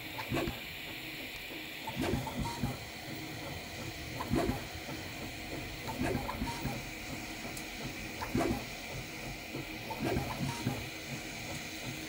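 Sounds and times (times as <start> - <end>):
fan hiss and hum: 0.0 - 12.0
stepper motors whirring: 1.8 - 12.0.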